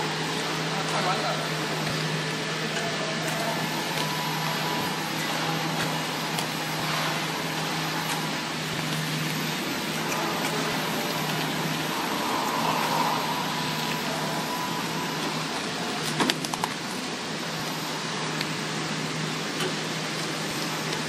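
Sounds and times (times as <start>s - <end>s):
packing machine humming: 0.0s - 21.0s.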